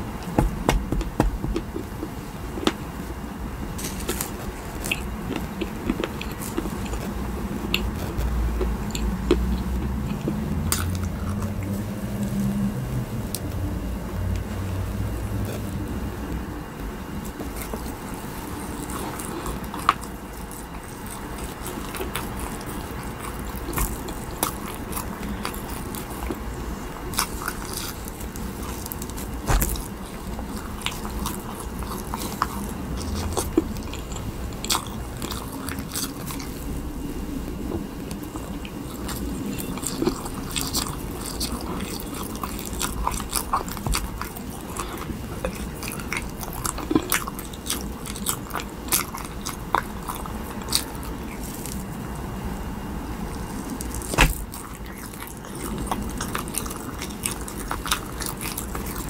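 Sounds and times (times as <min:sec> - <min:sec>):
chewing soft jelly: 0:03.8 - 0:12.7, 0:14.3 - 0:52.2, 0:53.2 - 0:59.0.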